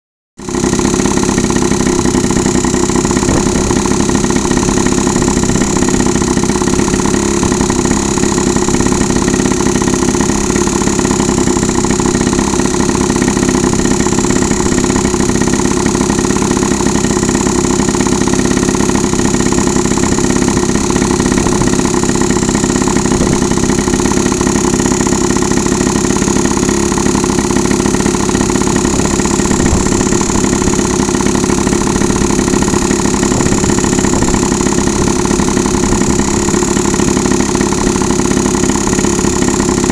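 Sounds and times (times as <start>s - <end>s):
scooter engine idling: 0.4s - 39.9s.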